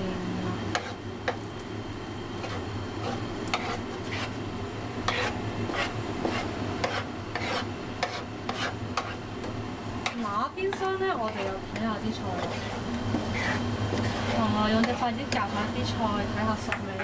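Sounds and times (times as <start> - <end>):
light sizzle: 0.0 - 17.0
steady low hum: 0.0 - 17.0
spatula scraping frying pan: 0.6 - 1.4, 2.3 - 15.7.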